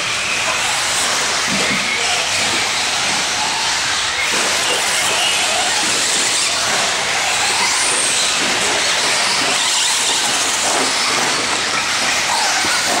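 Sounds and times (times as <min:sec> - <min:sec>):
rc truck motor whining: 0:00.0 - 0:13.0.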